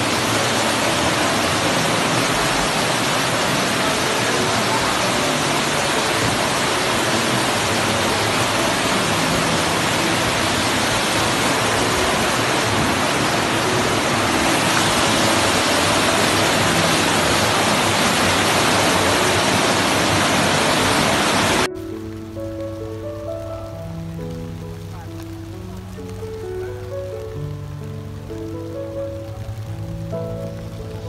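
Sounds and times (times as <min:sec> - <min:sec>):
floodwater rushing down stairs: 0:00.0 - 0:31.0.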